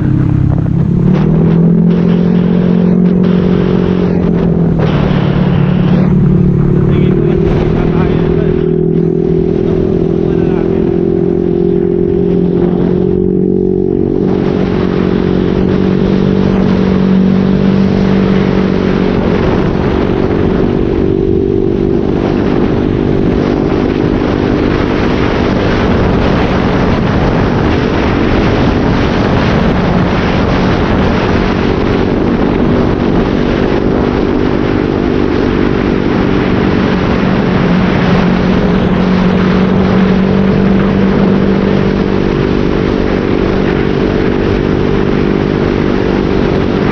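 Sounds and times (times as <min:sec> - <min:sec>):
motorcycle exhaust note: 0:00.0 - 0:46.9
rushing noise: 0:00.0 - 0:46.9.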